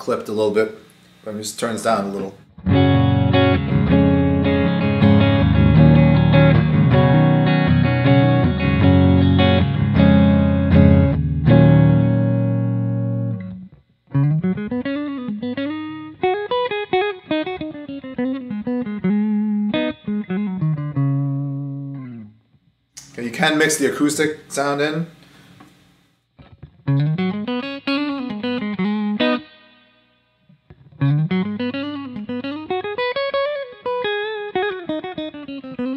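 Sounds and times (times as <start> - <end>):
electric guitar strummed chords: 1.8 - 22.4, 26.4 - 35.9
electric guitar single-note bends: 2.1 - 22.4, 26.4 - 35.9.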